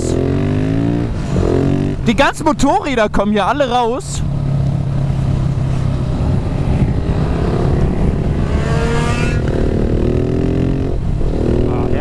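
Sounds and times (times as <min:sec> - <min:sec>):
motorcycle engine accelerating: 0:00.0 - 0:02.1, 0:04.2 - 0:12.0
wind and road noise: 0:00.0 - 0:12.0.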